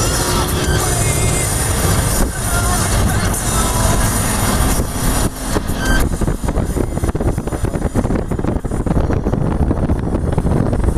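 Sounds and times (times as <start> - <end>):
car road and engine rumble: 0.0 - 10.9
wind buffeting microphone: 1.5 - 10.9.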